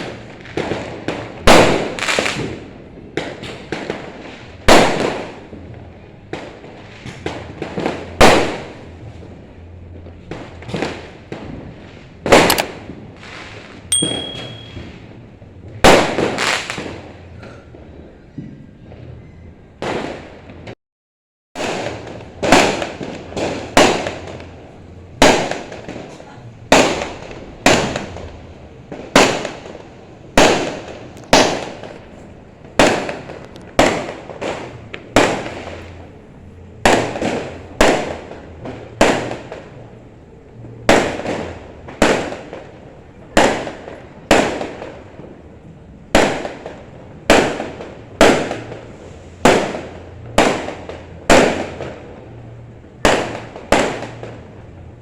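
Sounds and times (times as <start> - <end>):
fireworks bangs: 0.0 - 19.2, 19.8 - 20.8, 21.6 - 55.0.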